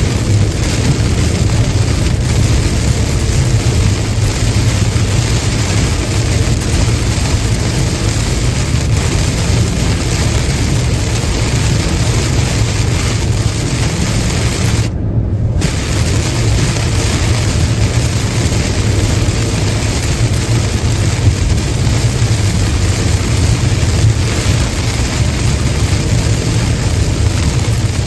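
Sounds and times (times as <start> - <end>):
hiss of rain and wet tyres: 0.0 - 28.0
low road rumble: 0.0 - 28.0.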